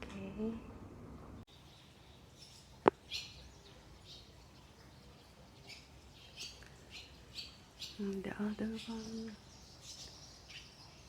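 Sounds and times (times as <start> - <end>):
bird chirping: 1.5 - 11.0.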